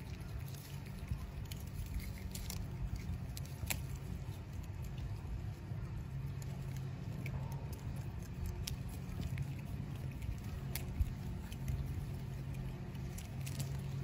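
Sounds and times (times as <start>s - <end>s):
crisp clicks and rustles: 0.0s - 14.0s
lemurs chewing leaves: 0.0s - 14.0s
low rumble: 0.0s - 14.0s.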